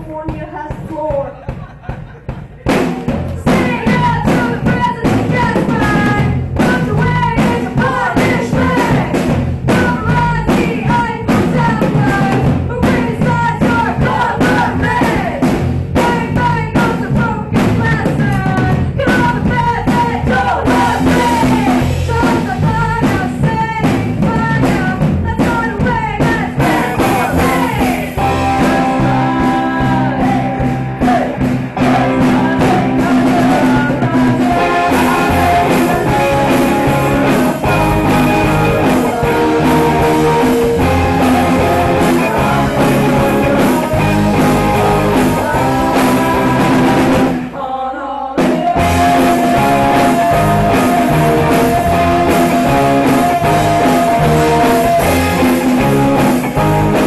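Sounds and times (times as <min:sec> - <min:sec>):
live rock band playing: 0:00.0 - 0:47.6, 0:48.4 - 0:57.0
person singing: 0:03.4 - 0:57.0.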